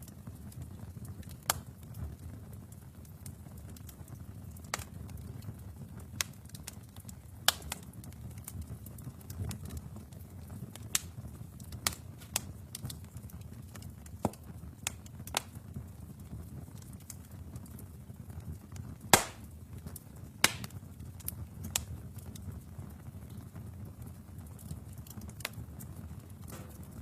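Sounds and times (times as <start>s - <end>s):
fire crackles and pops: 0.0s - 27.0s
low rumble of flames: 0.0s - 27.0s.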